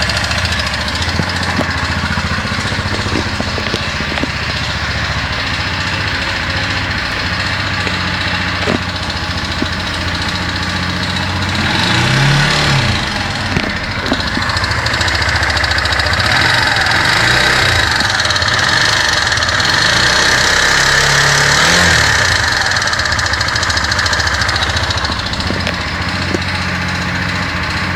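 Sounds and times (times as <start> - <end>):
abnormal mechanical engine noise: 0.0 - 27.9
motorcycle engine idling and revving: 0.0 - 27.9.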